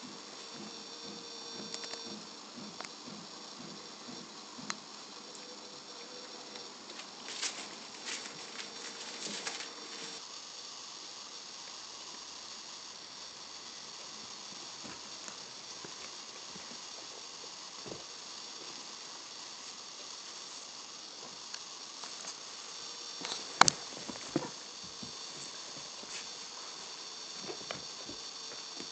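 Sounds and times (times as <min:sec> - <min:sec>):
background hiss: 0:00.0 - 0:28.9.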